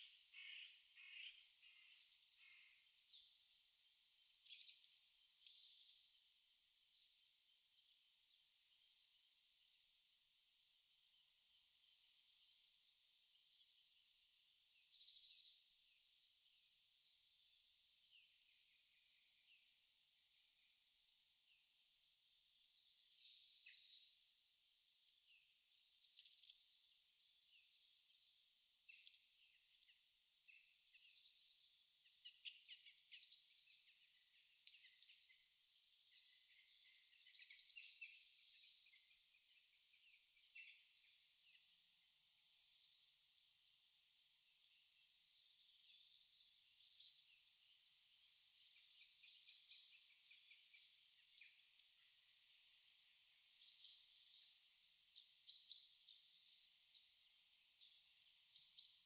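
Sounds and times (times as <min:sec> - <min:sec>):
faint bird chirps: 0:00.0 - 0:59.0.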